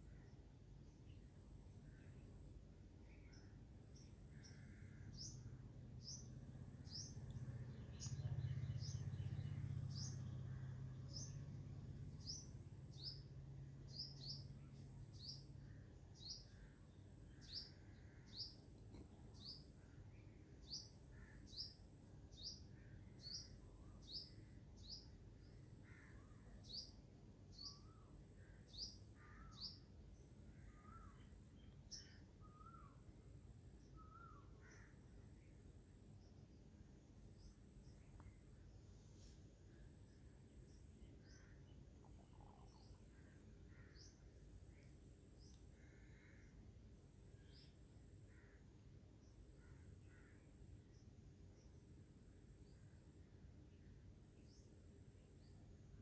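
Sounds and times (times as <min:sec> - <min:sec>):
faint bird chirps: 0:00.0 - 0:11.4, 0:12.1 - 0:36.6, 0:37.2 - 0:56.0.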